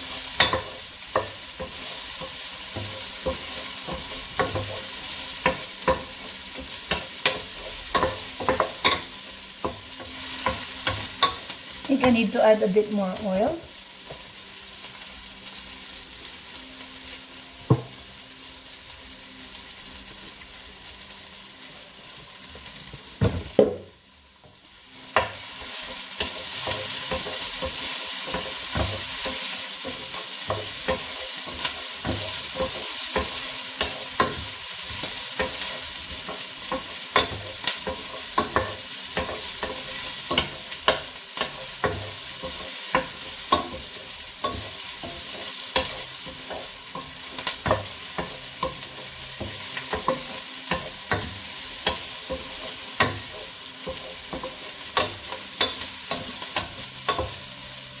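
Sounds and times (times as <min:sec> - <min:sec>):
onions frying with a sizzle: 0:00.0 - 0:58.0.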